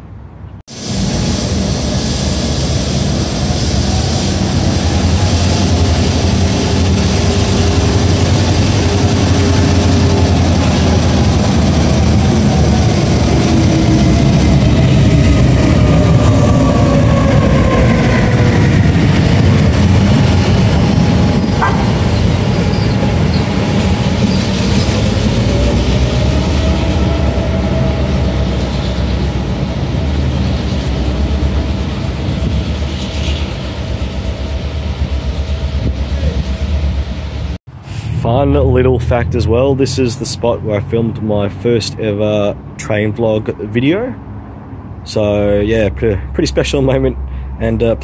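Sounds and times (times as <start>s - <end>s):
train whining tones: 0.7s - 41.3s
train wheels rumbling: 0.7s - 48.0s.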